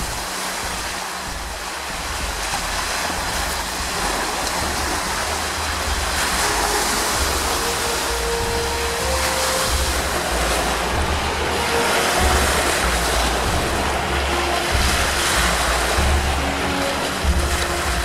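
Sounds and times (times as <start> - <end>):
waves washing onto pebbly shore: 0.0 - 18.0
wind rumbling on microphone: 0.0 - 18.0.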